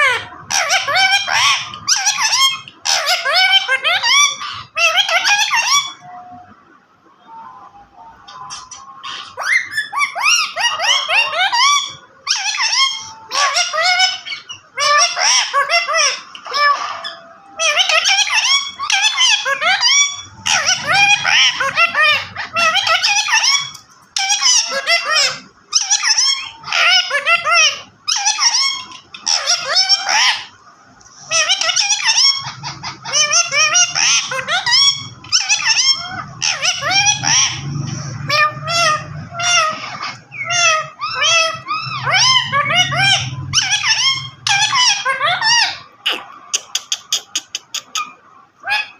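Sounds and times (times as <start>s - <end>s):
parrot calling in squeaky notes: 0.0s - 6.5s, 7.3s - 30.6s, 31.2s - 48.9s.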